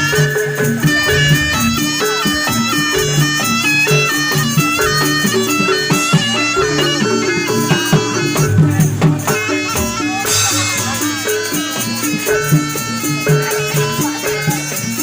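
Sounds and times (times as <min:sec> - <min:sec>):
nasal reed trumpet melody: 0:00.0 - 0:13.9
repeated percussion notes: 0:00.0 - 0:15.0.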